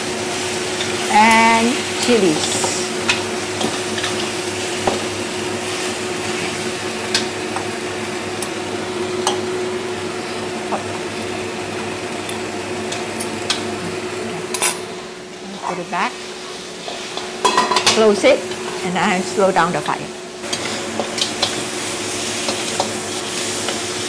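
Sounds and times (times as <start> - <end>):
water boiling in a pot: 0.0 - 24.0.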